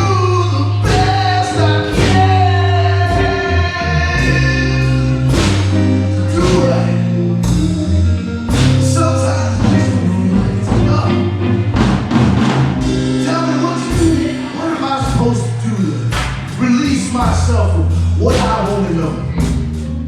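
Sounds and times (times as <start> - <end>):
blues band playing: 0.0 - 20.0.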